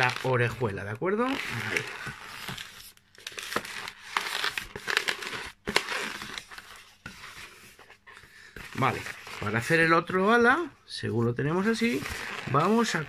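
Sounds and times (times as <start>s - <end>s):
rubber balloon rubbing: 0.0s - 10.5s, 11.6s - 13.0s.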